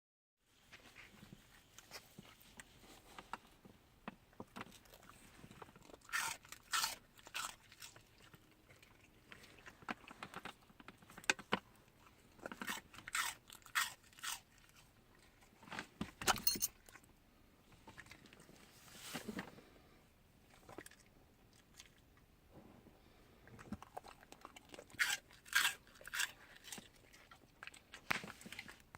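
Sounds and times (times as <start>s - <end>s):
wolf crunching and chewing: 0.7s - 17.1s, 17.8s - 18.8s, 20.4s - 22.3s, 23.4s - 28.9s.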